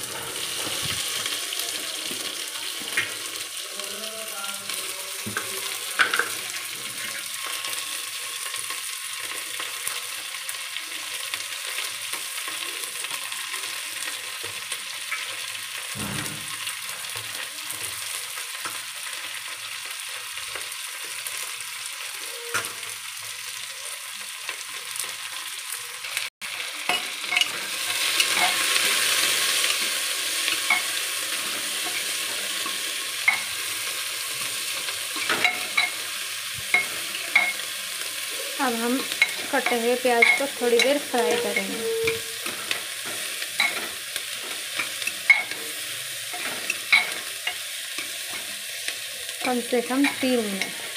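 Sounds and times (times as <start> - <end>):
onions sizzling in hot oil: 0.0 - 50.9.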